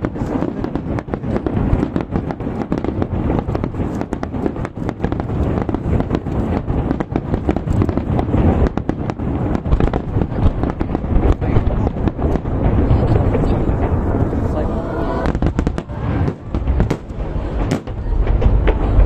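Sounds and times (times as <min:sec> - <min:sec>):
fireworks bangs: 0:00.0 - 0:19.0
low rumble of overlapping bursts: 0:01.2 - 0:19.0.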